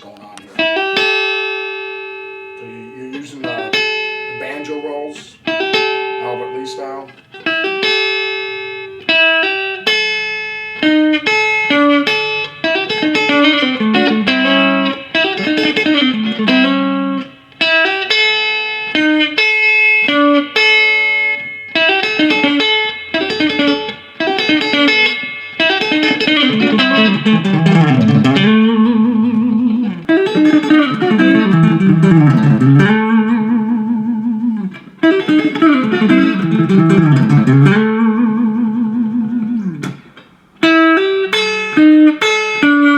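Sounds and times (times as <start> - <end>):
electric guitar country picking: 0.0 - 42.9.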